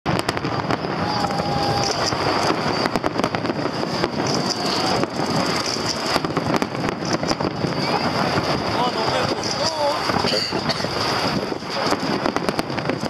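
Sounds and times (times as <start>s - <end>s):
fireworks bangs and crackles: 0.1s - 13.0s.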